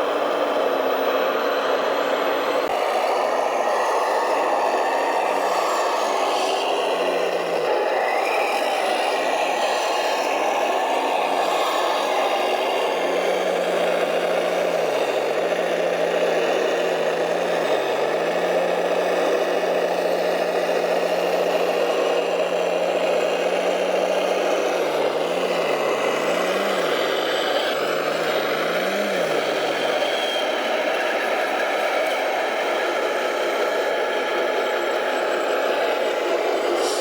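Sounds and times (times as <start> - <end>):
model trucks whirring: 0.0 - 37.0.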